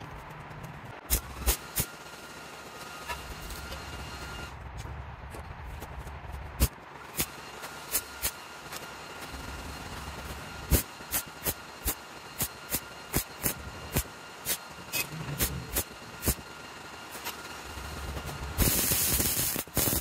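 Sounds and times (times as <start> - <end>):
welding arc crackling zaps: 0.2 - 4.6, 6.6 - 20.0.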